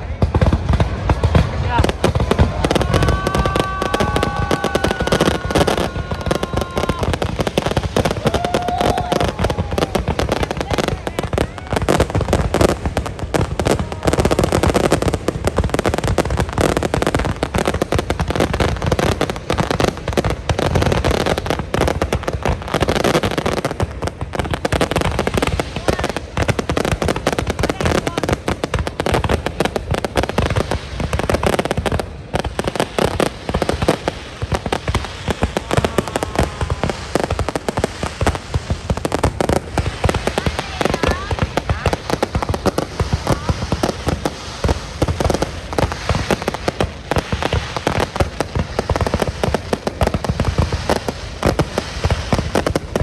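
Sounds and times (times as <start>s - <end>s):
fireworks banging and crackling: 0.0s - 53.0s.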